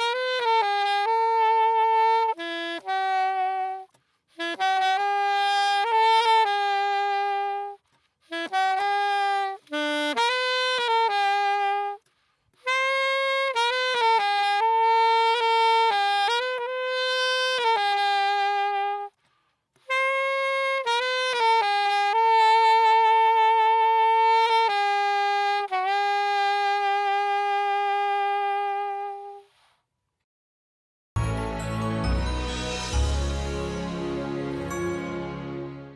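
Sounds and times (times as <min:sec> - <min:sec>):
solo saxophone melody: 0:00.0 - 0:19.2, 0:19.8 - 0:29.6, 0:31.2 - 0:35.9.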